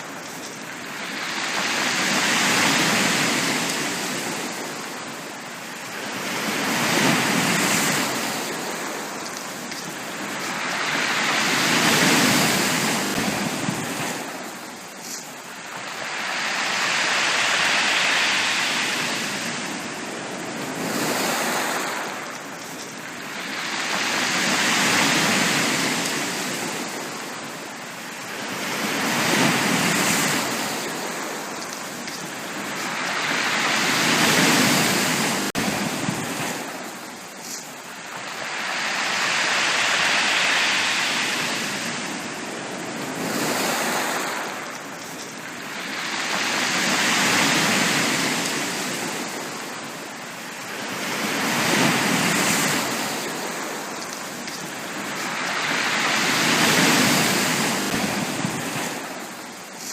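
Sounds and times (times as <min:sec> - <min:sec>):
ocean waves on a beach: 0:00.0 - 0:59.9.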